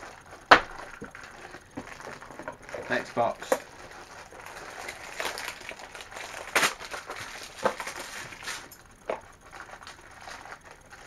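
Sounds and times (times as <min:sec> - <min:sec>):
cardboard box cracking and rustling: 0:00.0 - 0:10.4.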